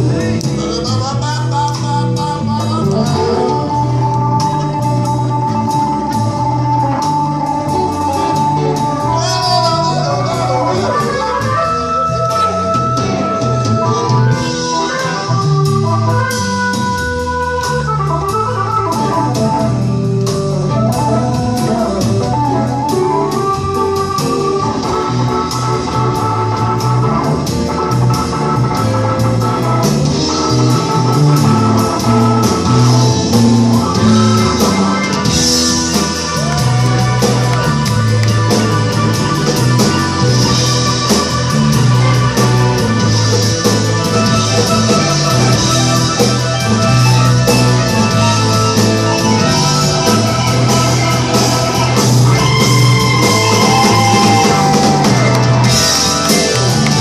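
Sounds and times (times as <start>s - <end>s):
organ sustained chords: 0.0s - 57.0s
rock band playing: 0.0s - 57.0s.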